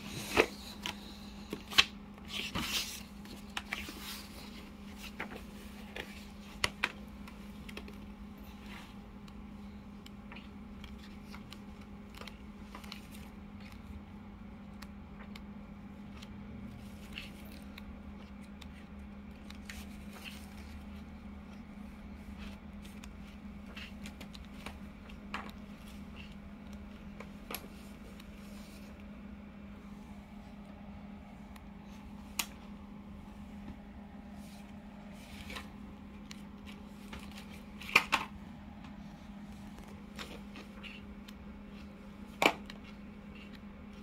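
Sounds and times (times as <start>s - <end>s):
book pages rustling: 0.0s - 44.0s.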